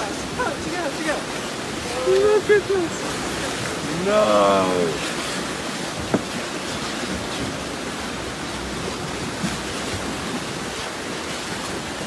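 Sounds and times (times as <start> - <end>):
sea water rushing and splashing: 0.0 - 12.0.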